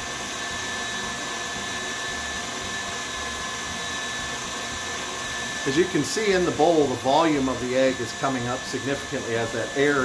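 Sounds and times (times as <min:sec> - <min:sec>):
stand mixer whirring: 0:00.0 - 0:10.0.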